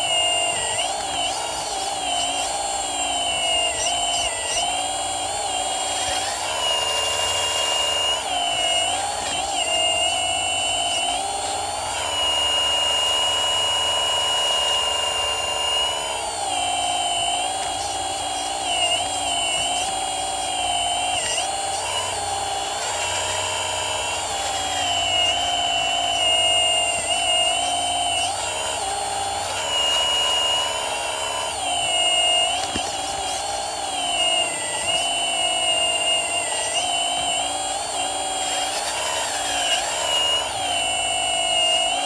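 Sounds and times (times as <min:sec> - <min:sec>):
electric pump motor whine: 0:00.0 - 0:42.0.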